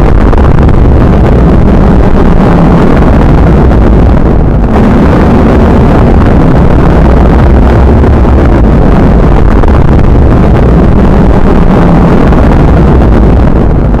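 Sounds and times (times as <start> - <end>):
heavy rain rushing: 0.0 - 14.0.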